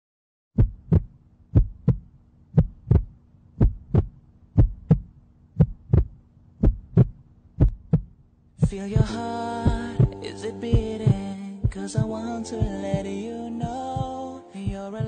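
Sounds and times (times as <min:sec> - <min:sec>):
heartbeat thumps: 0:00.6 - 0:15.0
faint steady hum: 0:01.1 - 0:15.0.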